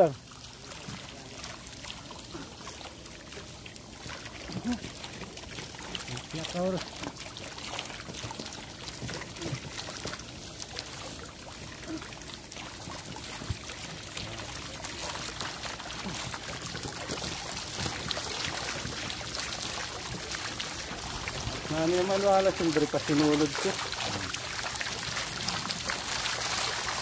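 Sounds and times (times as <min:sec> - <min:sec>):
net hauled through water: 0:00.0 - 0:27.0.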